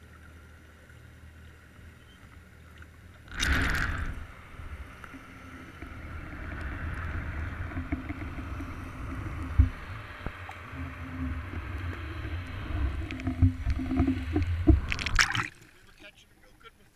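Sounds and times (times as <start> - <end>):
underwater rumble of water: 0.0 - 16.7
water splashing: 0.0 - 16.7
intermittent hum: 0.0 - 16.9.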